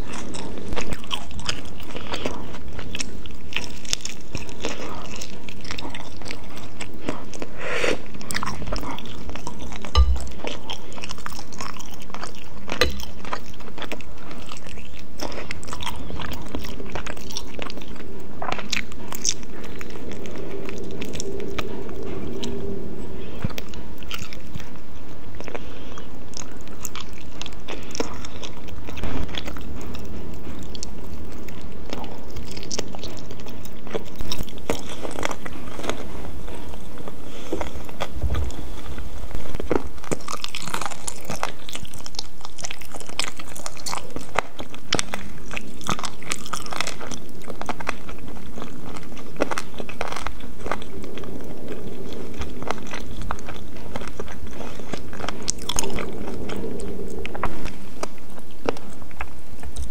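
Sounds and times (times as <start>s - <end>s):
person chewing chicken: 0.0s - 59.9s.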